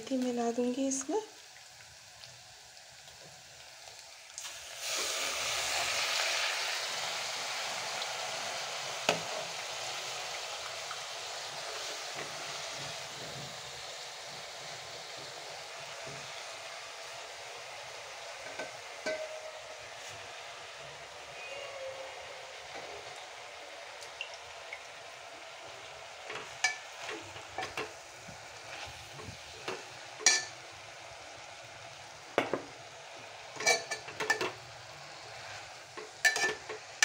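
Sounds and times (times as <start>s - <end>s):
leaves sizzling in hot oil: 0.0s - 37.0s.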